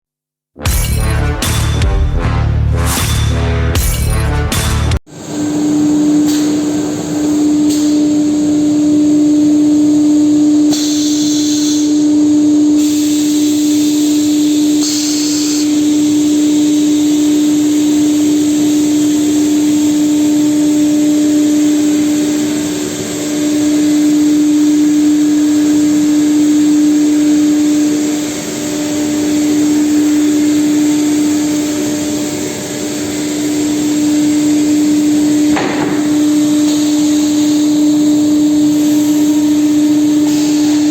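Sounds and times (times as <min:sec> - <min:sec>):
cnc router running: 0:05.0 - 0:40.9.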